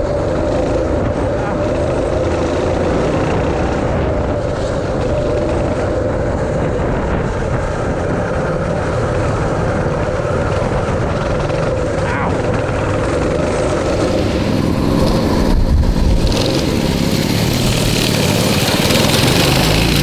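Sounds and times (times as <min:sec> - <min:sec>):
mini bike engines running: 0:00.0 - 0:20.0
wind on microphone: 0:00.0 - 0:20.0.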